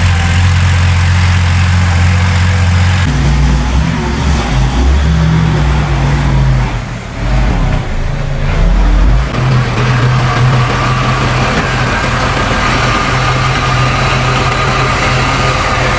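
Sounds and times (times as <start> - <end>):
heavy diesel machinery engine: 0.0 - 15.9.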